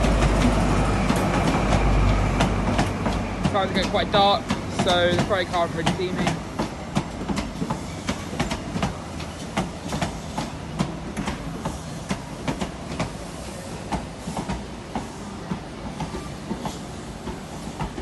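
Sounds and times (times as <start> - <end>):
low train rumble: 0.0 - 18.0
train wheels clacking over rail joints: 0.0 - 18.0.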